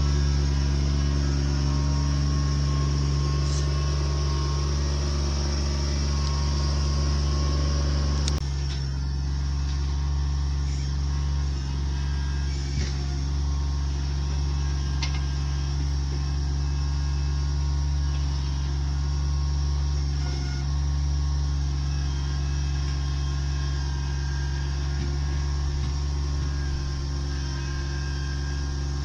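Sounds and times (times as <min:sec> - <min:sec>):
engine droning: 0:00.0 - 0:29.0.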